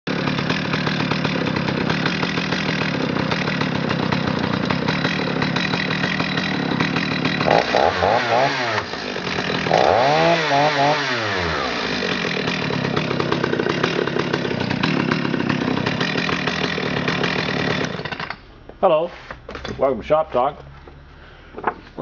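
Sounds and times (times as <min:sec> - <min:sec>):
chainsaw engine revving: 0:00.1 - 0:18.4.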